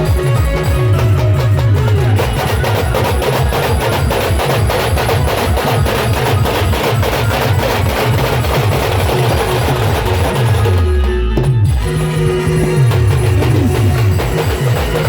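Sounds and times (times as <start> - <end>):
bass drum beats: 0.0 - 15.0
rapid sharp drum strikes: 0.0 - 15.0.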